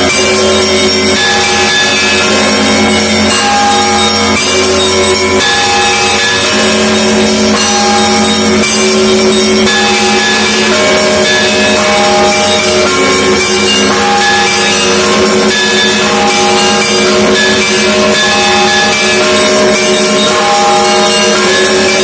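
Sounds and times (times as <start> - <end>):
church bells pealing: 0.0 - 22.0.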